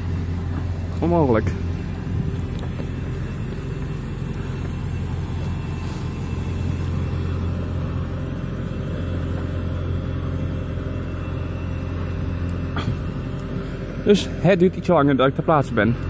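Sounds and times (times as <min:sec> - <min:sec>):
low vehicle engine drone: 0:00.0 - 0:16.0.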